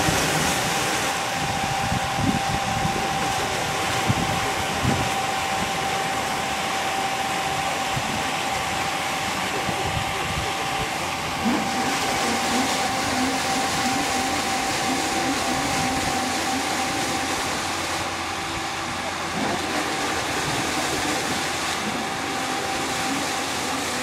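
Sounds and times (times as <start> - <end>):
boat engine running: 0.0 - 24.0
high whine: 0.0 - 24.0
paddle wheel splashing water: 0.0 - 24.0.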